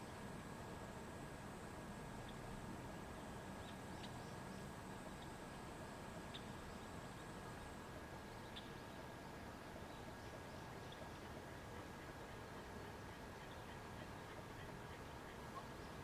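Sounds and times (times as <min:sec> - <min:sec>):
quiet steady hiss: 0:00.0 - 0:16.0.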